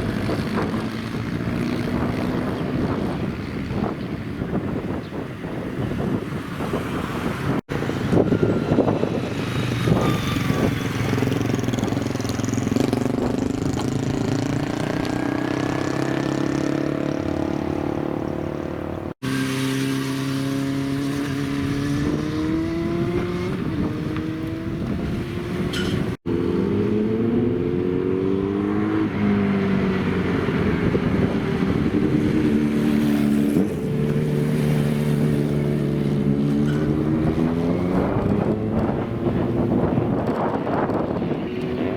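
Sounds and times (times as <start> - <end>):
motorcycle engines accelerating: 0.0 - 41.9.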